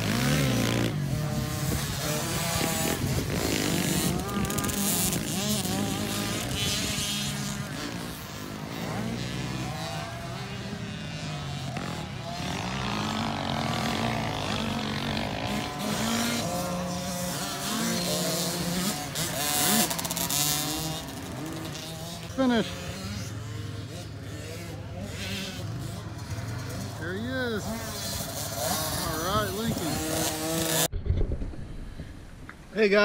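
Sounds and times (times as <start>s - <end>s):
dirt bike engines revving: 0.0s - 30.9s, 31.6s - 33.0s.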